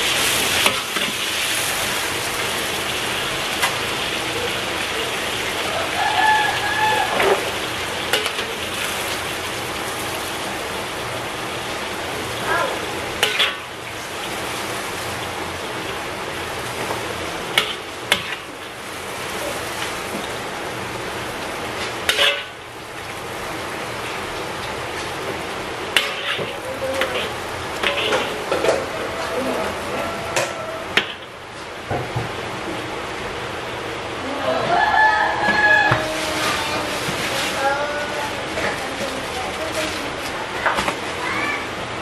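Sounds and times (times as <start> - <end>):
oil sizzling in a wok: 0.0 - 42.0.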